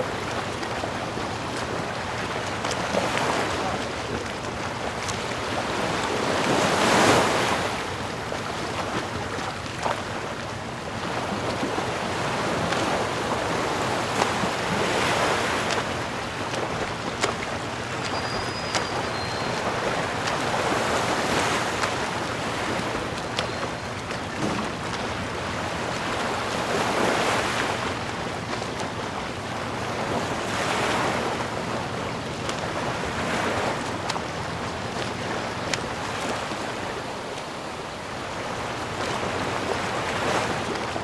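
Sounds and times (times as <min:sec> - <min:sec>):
ocean waves breaking: 0:00.0 - 0:41.0.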